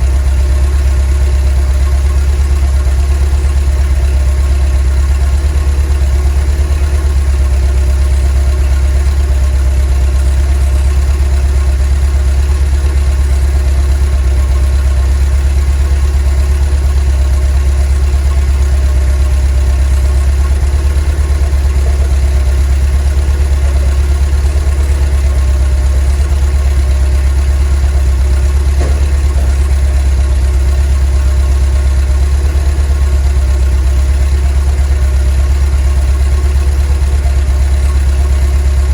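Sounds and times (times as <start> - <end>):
engine idling with deep hum: 0.0 - 38.9.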